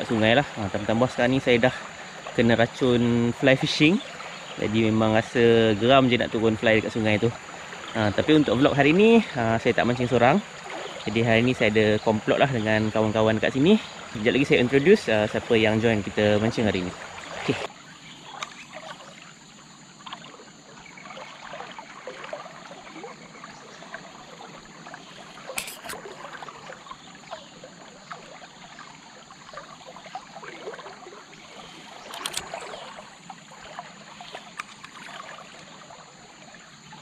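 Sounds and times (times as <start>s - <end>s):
river current rushing: 0.0s - 37.0s.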